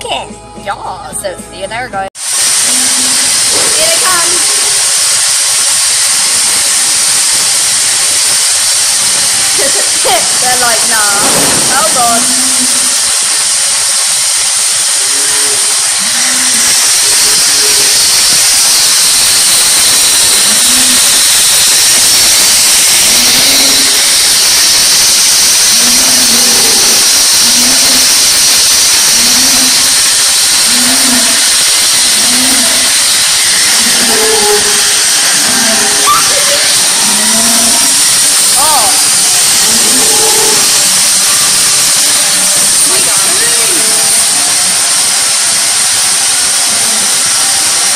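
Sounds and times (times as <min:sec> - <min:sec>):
milking machine vacuum hiss: 0:02.2 - 0:47.9.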